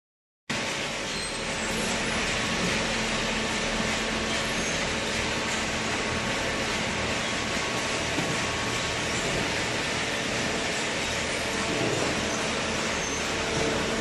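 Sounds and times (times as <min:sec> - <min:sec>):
hydraulic baler running: 0:00.5 - 0:14.0.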